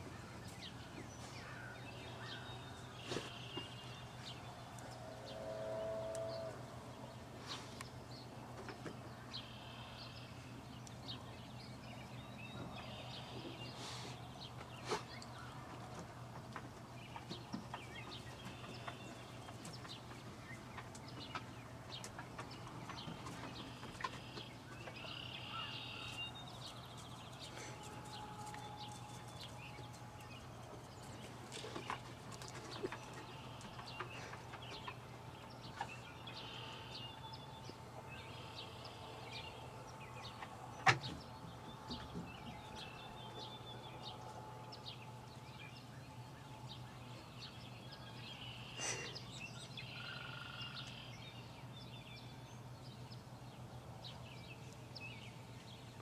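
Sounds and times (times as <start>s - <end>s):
birds calling: 0.0s - 56.0s.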